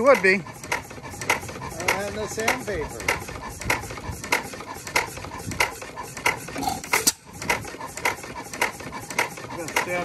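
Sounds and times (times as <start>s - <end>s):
stationary engine clacking: 0.0s - 10.0s.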